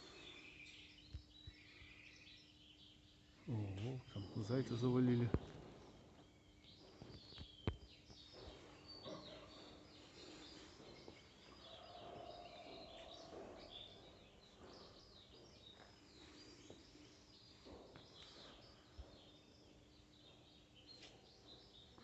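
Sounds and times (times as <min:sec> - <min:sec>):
faint birdsong chirps: 0:00.0 - 0:22.0.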